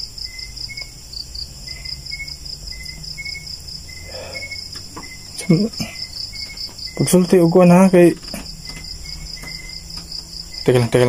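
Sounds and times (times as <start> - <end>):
insect fast-pulsing trill: 0.0 - 11.0
insect short chirps: 0.0 - 11.0.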